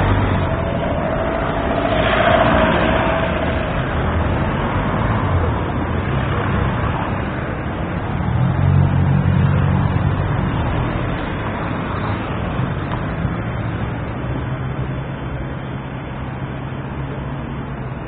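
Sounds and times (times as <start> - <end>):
road rumble: 0.0 - 18.0
vehicle engine hum: 0.0 - 18.0.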